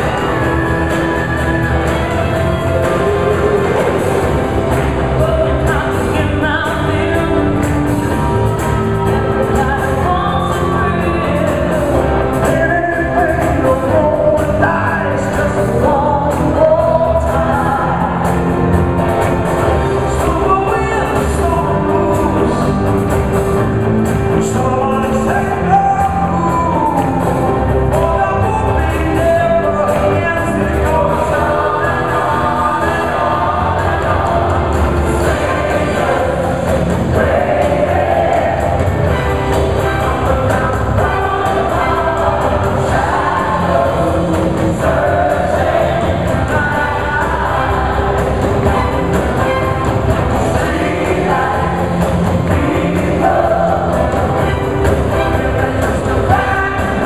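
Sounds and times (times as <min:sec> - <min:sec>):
band and orchestra playing: 0:00.0 - 0:57.0
group of singers singing: 0:00.0 - 0:57.0.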